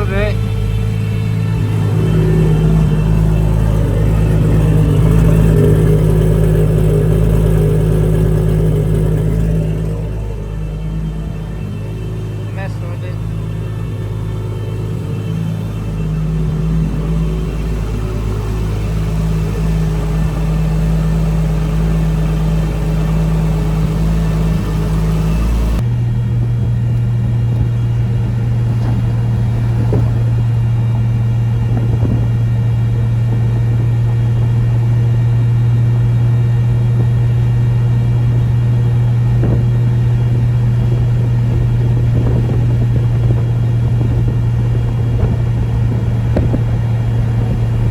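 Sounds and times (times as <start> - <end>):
turbo car engine running: 0.0 - 47.9.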